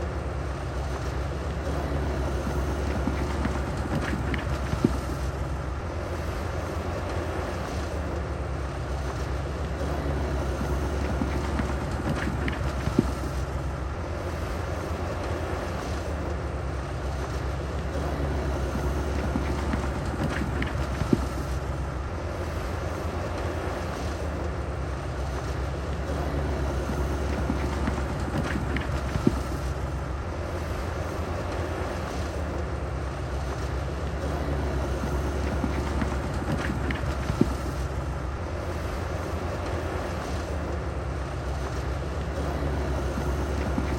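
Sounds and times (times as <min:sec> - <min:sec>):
diesel machinery rumbling: 0:00.0 - 0:43.9.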